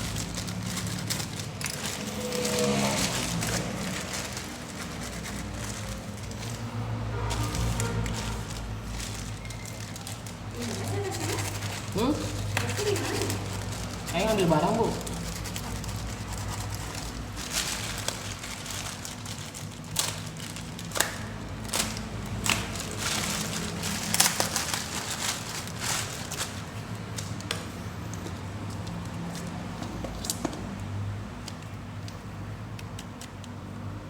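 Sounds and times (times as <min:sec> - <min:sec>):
packaging crinkling and rustling: 0:00.0 - 0:34.0.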